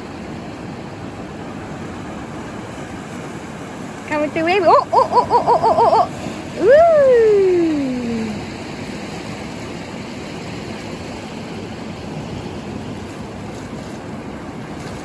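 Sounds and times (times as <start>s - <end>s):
ocean surf washing ashore: 0.1s - 15.0s.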